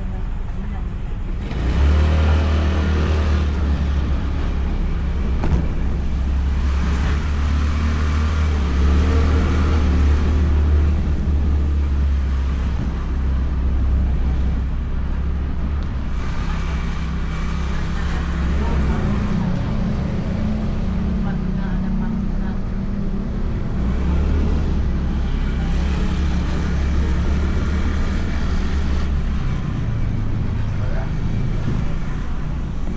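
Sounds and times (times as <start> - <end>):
scooter engine rumbling: 0.0 - 32.9.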